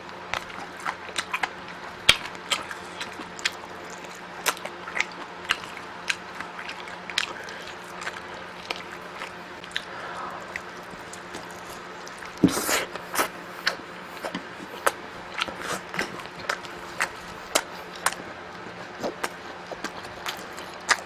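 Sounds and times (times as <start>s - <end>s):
chewing and biting crunches: 0.0s - 21.0s
faint steady hum: 0.0s - 21.0s.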